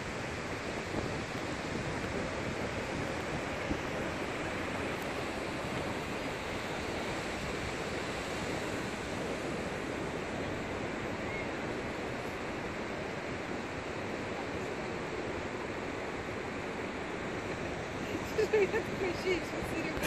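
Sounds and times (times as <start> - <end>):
waves breaking on a beach: 0.0 - 20.0.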